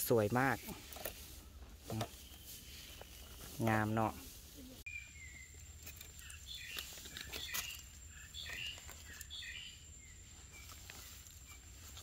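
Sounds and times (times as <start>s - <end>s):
dry leaves and twigs crackling: 0.0s - 12.0s
faint bird chirps: 0.5s - 3.8s, 4.5s - 12.0s.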